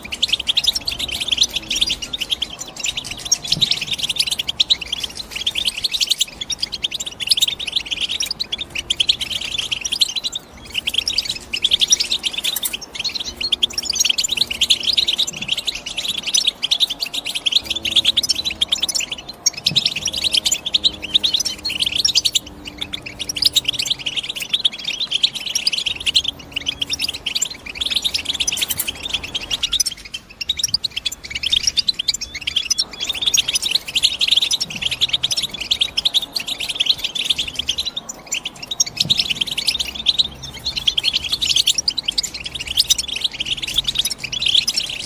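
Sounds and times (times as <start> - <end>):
goldfinch twittering song: 0.0 - 45.0.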